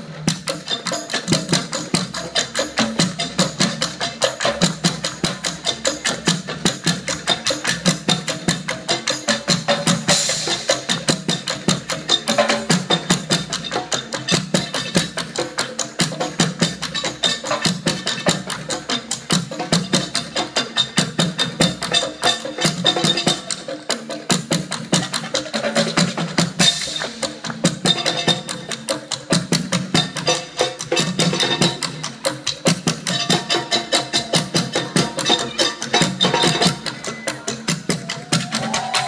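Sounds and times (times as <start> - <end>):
drum kit: 0.0 - 39.0
hand drum groove: 0.0 - 39.0.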